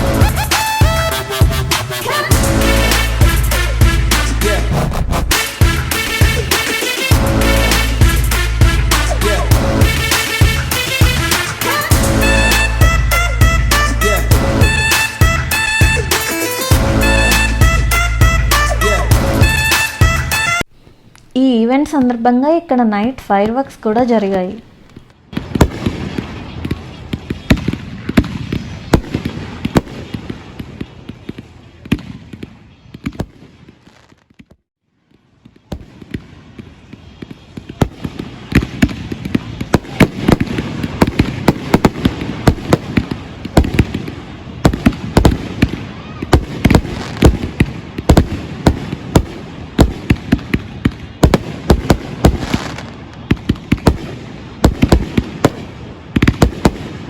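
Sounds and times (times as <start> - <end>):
fireworks bangs and pops: 0.0 - 17.8, 24.3 - 57.0.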